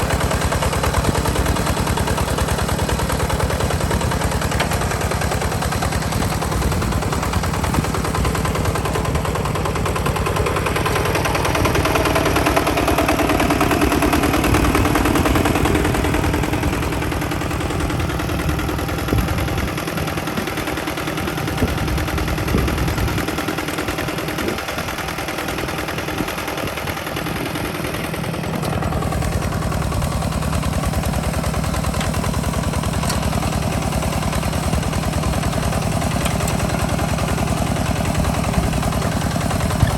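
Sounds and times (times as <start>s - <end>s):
diesel engine popping exhaust: 0.0s - 39.9s.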